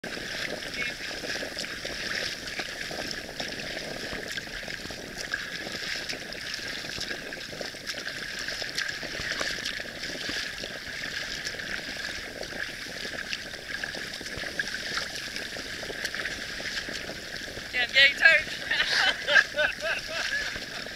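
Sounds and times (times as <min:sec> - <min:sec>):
small splashes and drips: 0:00.0 - 0:20.9
water lapping around a kayak: 0:00.0 - 0:20.9.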